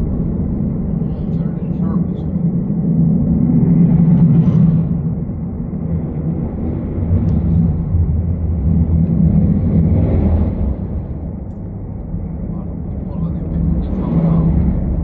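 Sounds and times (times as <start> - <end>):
rocket engine rumble: 0.0 - 15.0.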